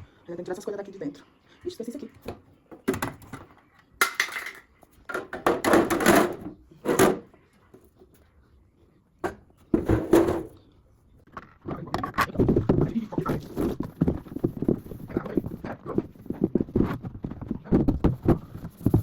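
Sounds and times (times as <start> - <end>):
rustling and clattering items: 2.2 - 8.3, 9.2 - 19.0.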